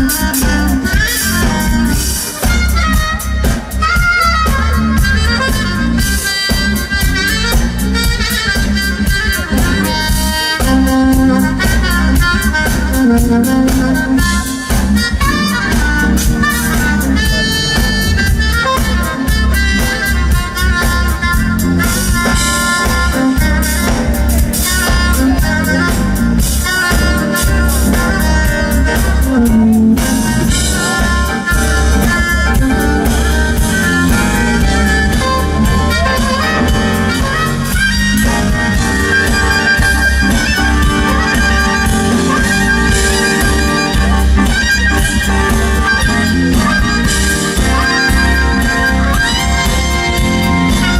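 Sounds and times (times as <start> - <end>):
bass: 0.0 - 50.9
drum kit: 0.0 - 50.9
keyboards: 0.0 - 50.9
saxophone lead: 0.0 - 50.9.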